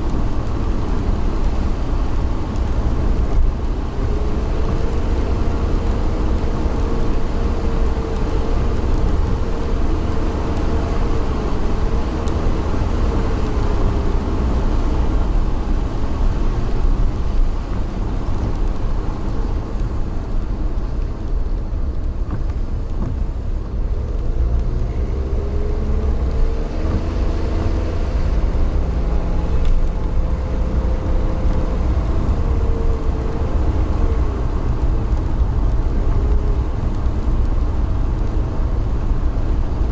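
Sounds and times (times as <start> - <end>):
vehicle engine rumbling at speed: 0.0 - 39.9.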